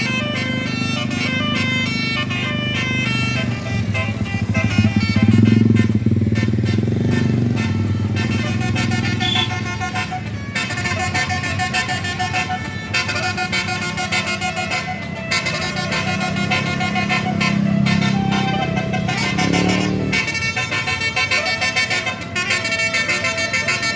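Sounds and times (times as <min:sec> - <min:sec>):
bus engine running low: 0:00.0 - 0:23.9
bus horns playing a tune: 0:00.0 - 0:23.9.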